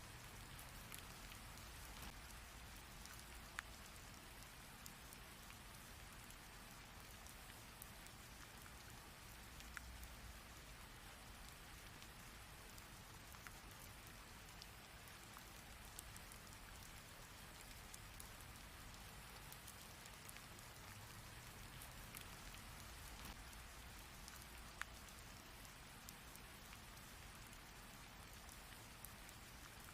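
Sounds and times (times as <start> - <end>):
raindrops ticking: 0.0 - 29.9.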